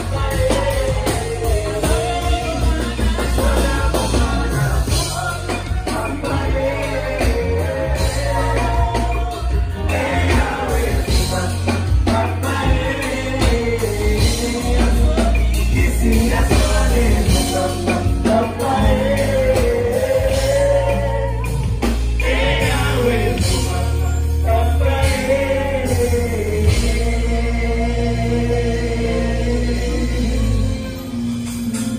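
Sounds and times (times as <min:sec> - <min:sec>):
band playing: 0:00.0 - 0:31.9.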